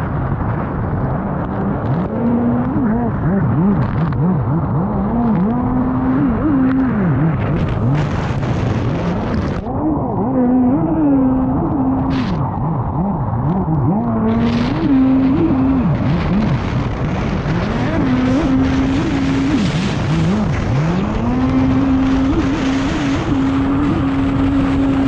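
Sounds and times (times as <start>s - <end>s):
jet ski engine revving: 1.5s - 25.0s.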